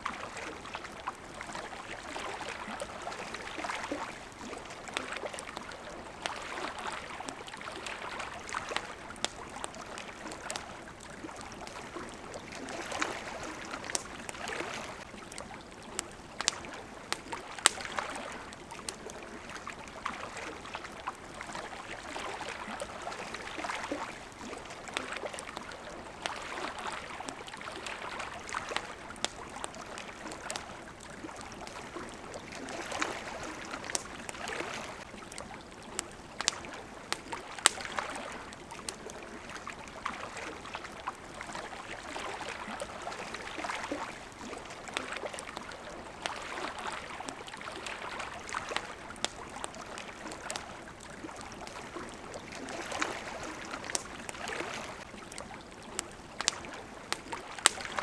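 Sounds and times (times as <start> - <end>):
campfire crackling and popping: 0.0 - 58.0
water lapping: 0.0 - 58.0.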